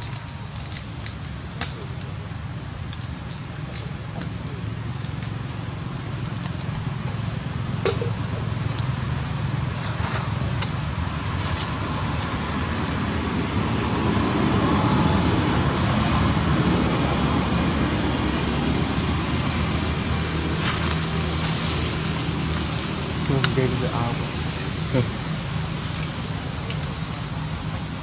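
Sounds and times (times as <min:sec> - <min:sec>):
vehicle engine hum and road noise: 0:00.0 - 0:28.0.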